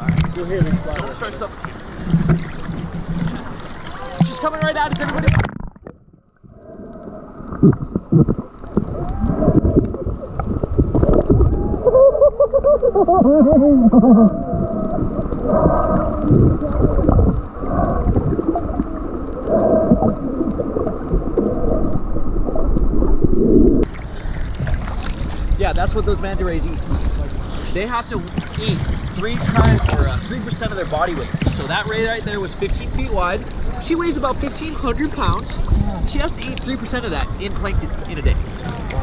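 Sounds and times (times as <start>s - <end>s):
muffled underwater water churning: 0.0s - 39.0s.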